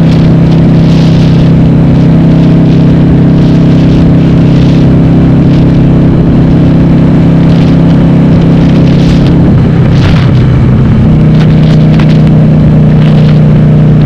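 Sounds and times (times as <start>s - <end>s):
loud motorcycle engine cruising: 0.0s - 14.0s.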